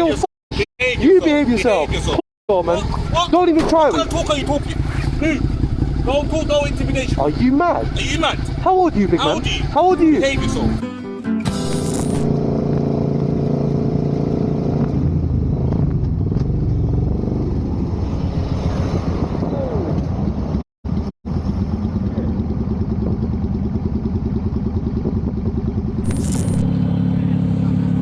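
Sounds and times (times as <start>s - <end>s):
motorcycle engine running: 2.6s - 10.8s, 11.5s - 19.4s, 20.1s - 28.0s.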